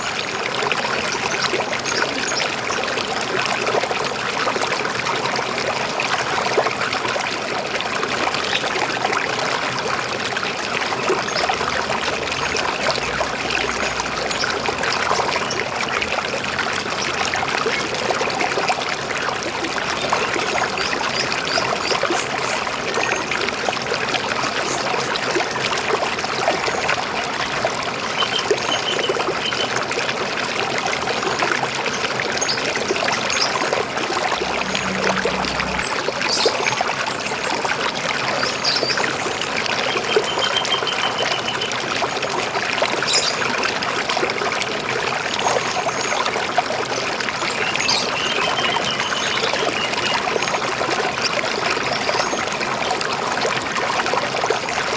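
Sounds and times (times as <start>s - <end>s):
river water babbling over stones: 0.0s - 54.9s.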